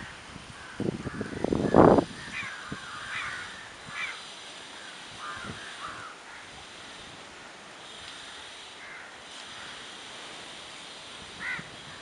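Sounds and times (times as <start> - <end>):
crows cawing: 0.0 - 6.6, 7.4 - 10.0, 11.4 - 12.0
steady background noise: 0.0 - 12.0.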